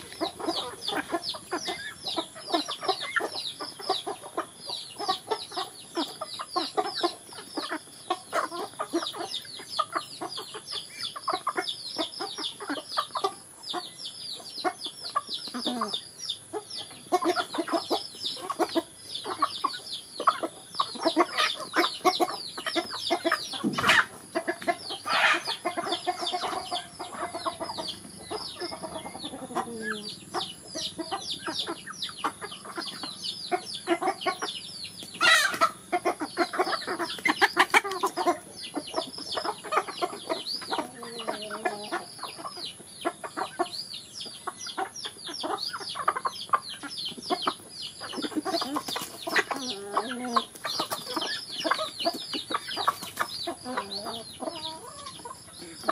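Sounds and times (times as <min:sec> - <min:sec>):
chickens clucking: 0:00.0 - 0:55.9
chickens pecking: 0:00.0 - 0:55.9.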